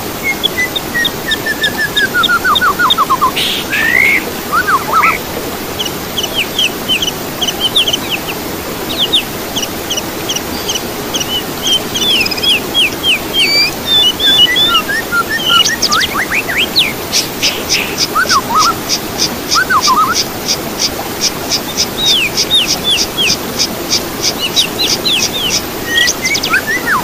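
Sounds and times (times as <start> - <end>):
songbirds singing and calling: 0.1 - 27.0.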